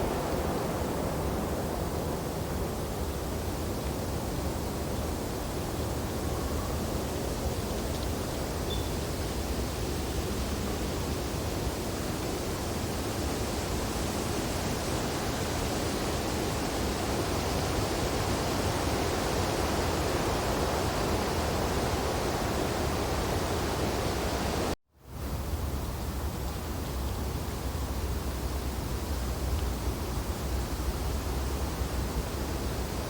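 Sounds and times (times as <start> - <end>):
wind through tree branches: 0.0 - 33.0.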